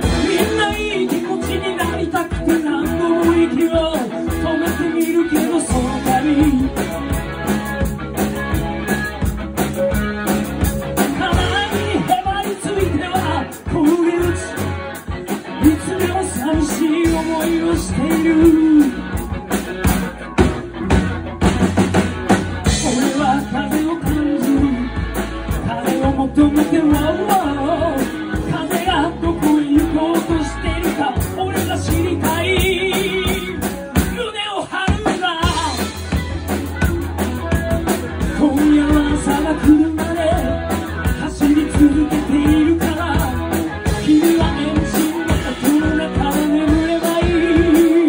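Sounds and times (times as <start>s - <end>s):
man singing into a microphone: 0.0s - 7.4s, 11.0s - 19.3s, 22.6s - 36.2s, 38.1s - 48.0s
drum kit: 0.0s - 48.0s
electric guitar: 0.0s - 48.0s
upright bass: 0.0s - 48.0s.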